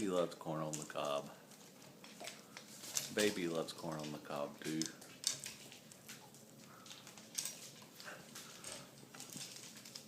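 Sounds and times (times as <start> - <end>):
parrot crunching corn kernels: 0.1 - 10.0.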